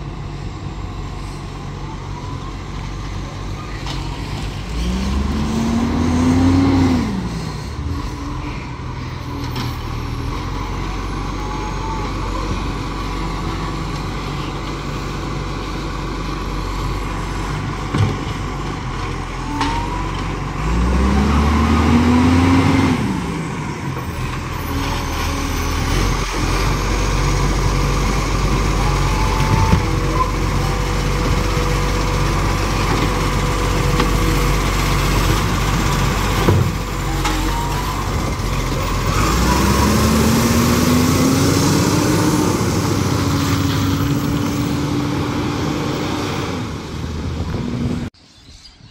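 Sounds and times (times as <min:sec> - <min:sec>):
diesel engine running: 0:00.0 - 0:48.2.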